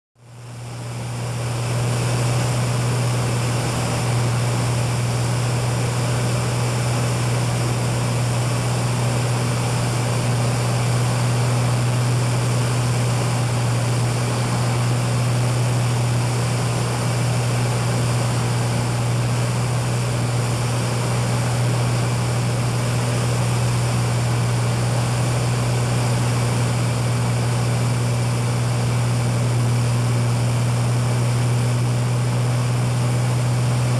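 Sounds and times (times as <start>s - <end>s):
propeller plane engine drone: 0.2s - 33.9s.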